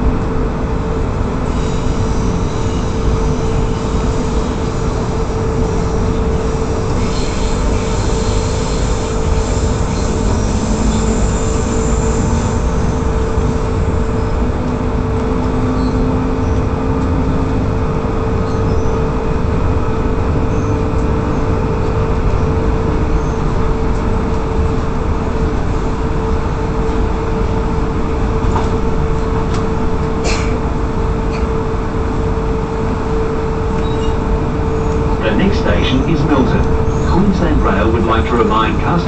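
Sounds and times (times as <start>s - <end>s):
constant hum: 0.0s - 39.0s
train wheels rumbling on rails: 0.0s - 39.0s.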